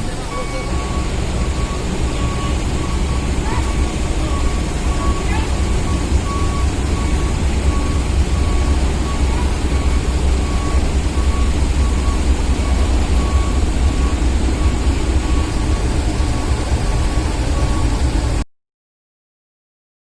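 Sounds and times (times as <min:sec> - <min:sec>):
heavy engine rumble: 0:00.0 - 0:18.4
reversing alarm beeping: 0:00.0 - 0:18.4.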